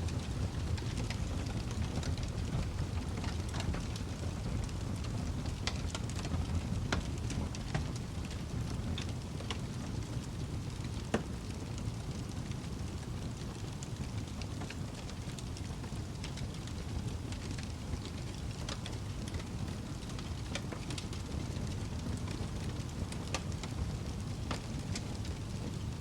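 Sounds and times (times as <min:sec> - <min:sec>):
low rumble of flames: 0:00.0 - 0:26.0
wood fire crackling and popping: 0:00.0 - 0:26.0.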